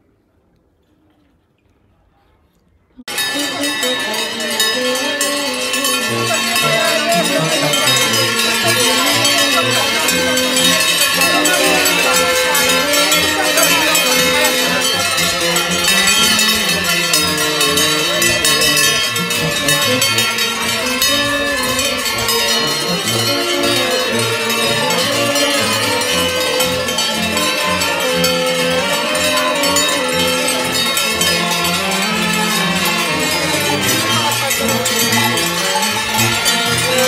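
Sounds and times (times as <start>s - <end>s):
large cowbells clanging: 3.1s - 37.0s
tune playing: 3.1s - 37.0s.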